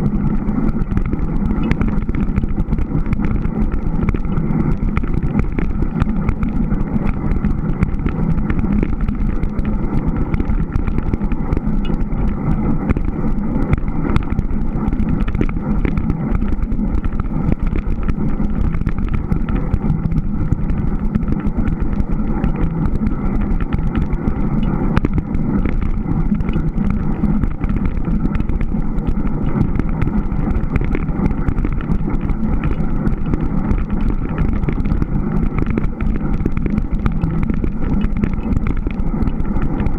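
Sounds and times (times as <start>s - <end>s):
bike tyres rolling on snow: 0.0s - 39.9s.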